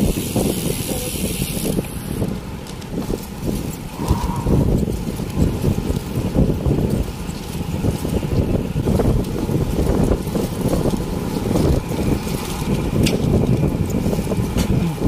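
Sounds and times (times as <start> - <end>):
wind rumbling over microphone: 0.0 - 15.0.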